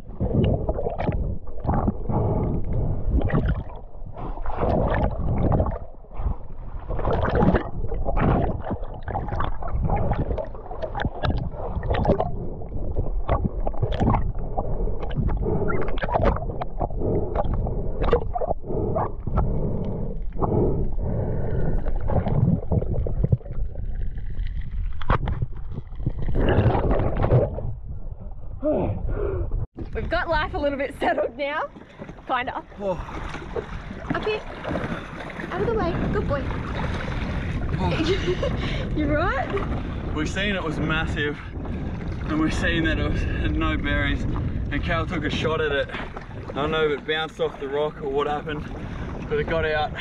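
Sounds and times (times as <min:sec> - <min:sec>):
churning underwater rumble: 0:00.0 - 0:50.0.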